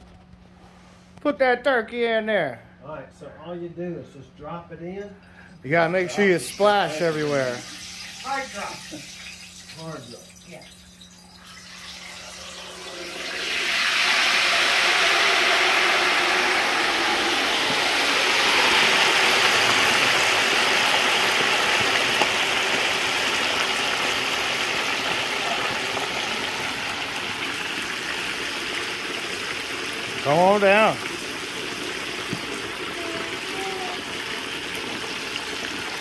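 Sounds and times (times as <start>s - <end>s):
oil sizzling and bubbling: 5.7s - 36.0s.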